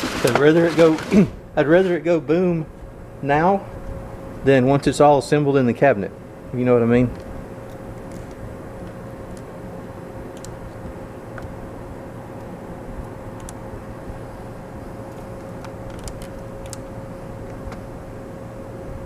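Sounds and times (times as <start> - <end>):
background hum: 0.0 - 19.0
mid-pitched whine: 0.0 - 19.0.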